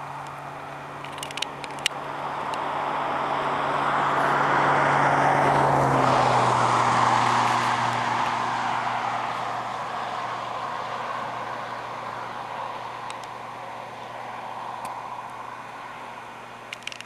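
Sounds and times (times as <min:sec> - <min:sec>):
vehicle passing on highway: 0:00.0 - 0:17.0.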